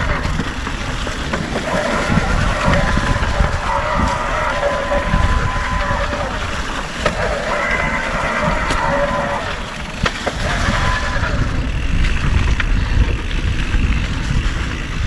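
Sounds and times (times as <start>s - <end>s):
tyres rolling over rough ground: 0.0s - 15.0s
wind rush on microphone: 0.0s - 15.0s.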